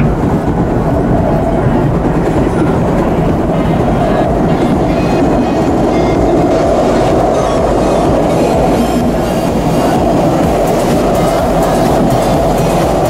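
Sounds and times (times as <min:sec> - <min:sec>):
faint high whine: 0:00.0 - 0:13.0
train wheels rumbling on rail: 0:00.0 - 0:13.0.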